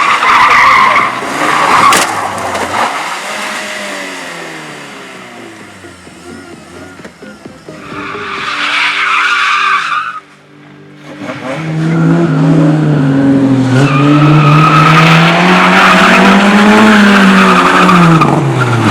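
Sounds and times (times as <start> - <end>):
car tyres squealing: 0.0 - 4.5, 7.6 - 10.4, 11.0 - 18.9
car engine revving: 0.0 - 10.0, 10.9 - 18.9.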